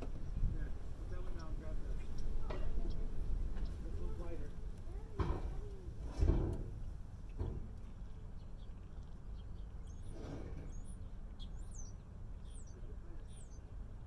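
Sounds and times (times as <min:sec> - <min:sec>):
songbird chirping: 0:00.0 - 0:06.0, 0:06.8 - 0:14.0
low steady rumble: 0:00.0 - 0:14.0.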